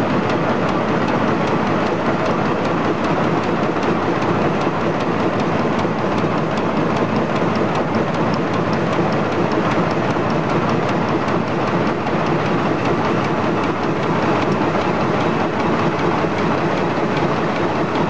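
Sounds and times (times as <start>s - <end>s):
machine rollers clattering: 0.0s - 18.0s.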